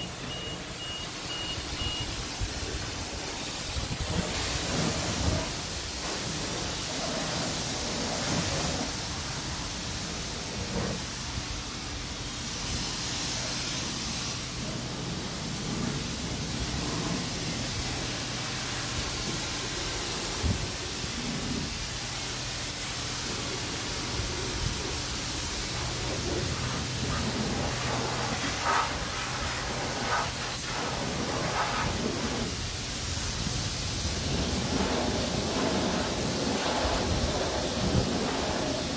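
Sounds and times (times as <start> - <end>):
car wash spray hissing: 0.0 - 38.9.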